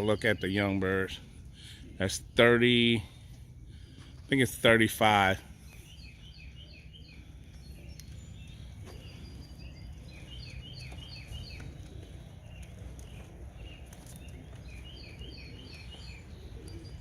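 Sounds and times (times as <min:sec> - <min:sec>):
songbird chirping: 0:00.0 - 0:17.0
steady low rumble: 0:00.0 - 0:17.0.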